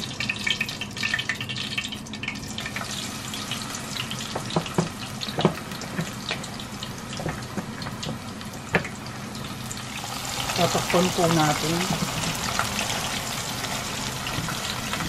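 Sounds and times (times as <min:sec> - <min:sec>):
deep-frying oil sizzling: 0:00.0 - 0:15.0.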